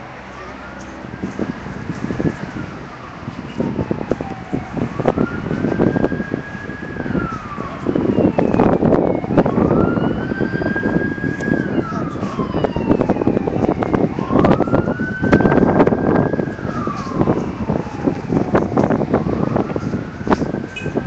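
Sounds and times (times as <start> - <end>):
wail siren: 0.0 - 21.0.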